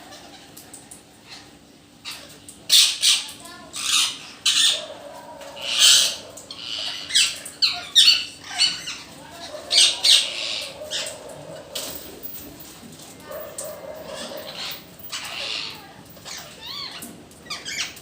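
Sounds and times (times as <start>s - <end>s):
parrots squawking: 0.0s - 18.0s.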